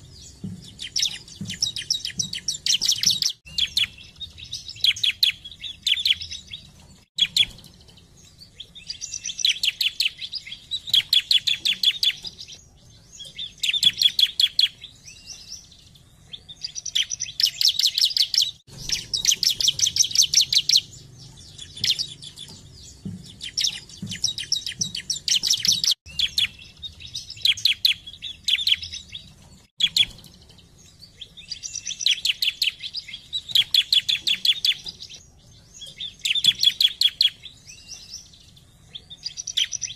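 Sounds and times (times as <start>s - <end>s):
bird singing sharp chipping notes: 0.0s - 39.9s.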